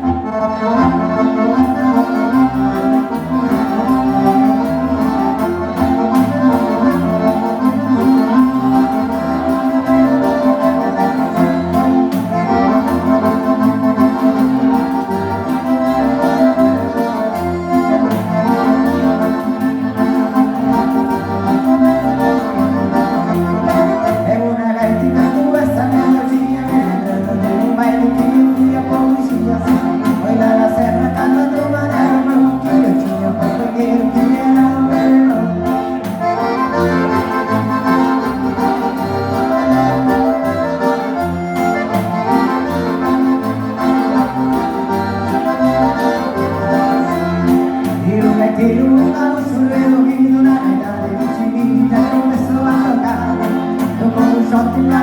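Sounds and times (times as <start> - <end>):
accordion playing chords: 0.0 - 55.0
pulsing bass: 0.0 - 55.0.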